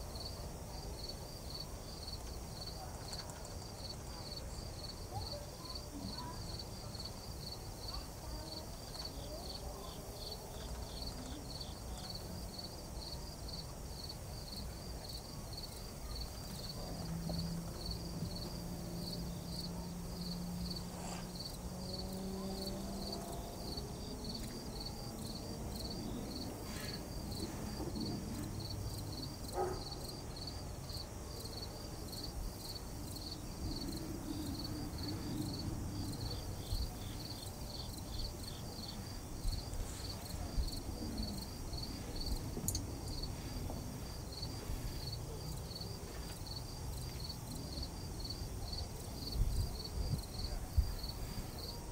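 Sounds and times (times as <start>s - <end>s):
insects chirping: 0.0s - 51.9s.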